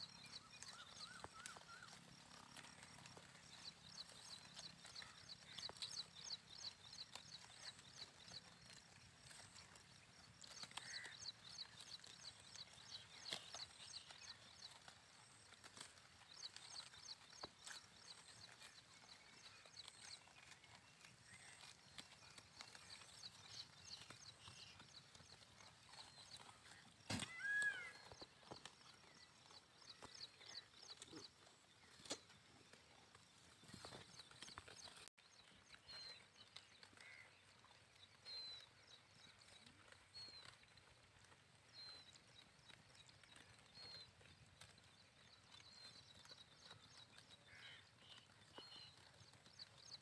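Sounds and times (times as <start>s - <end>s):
sheep cropping grass: 0.0s - 50.0s.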